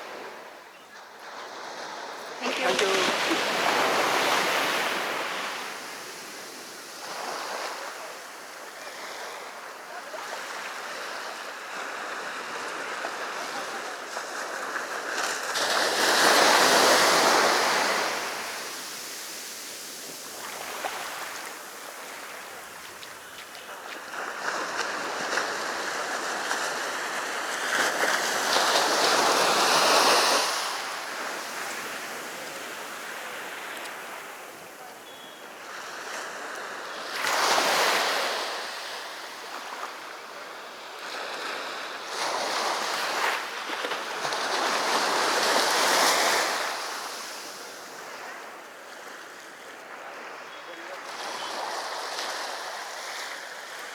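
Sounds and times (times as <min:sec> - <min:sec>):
sea waves breaking on beach: 0:00.0 - 0:53.9.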